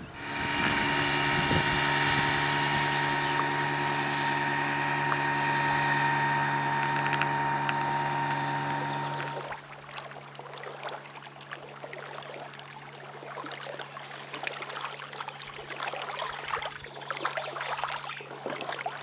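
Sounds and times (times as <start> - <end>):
outboard engine running: 0.0 - 19.0.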